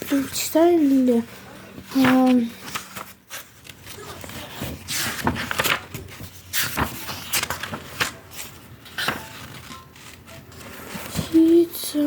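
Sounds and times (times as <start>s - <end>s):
book pages turning: 0.0s - 12.0s.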